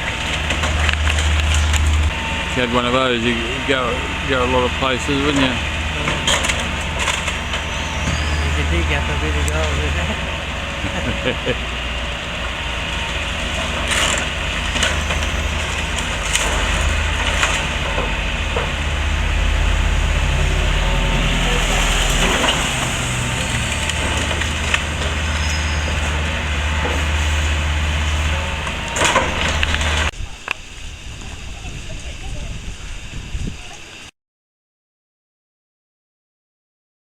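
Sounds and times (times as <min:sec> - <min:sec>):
wood cracking and splintering: 0:00.0 - 0:30.1
excavator engine running: 0:00.0 - 0:32.2.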